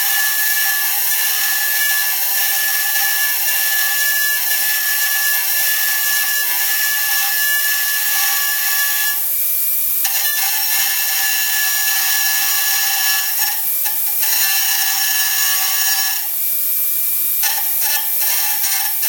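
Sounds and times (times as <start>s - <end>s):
tool rasping on metal: 0.0s - 9.2s, 10.0s - 16.3s, 17.4s - 19.0s.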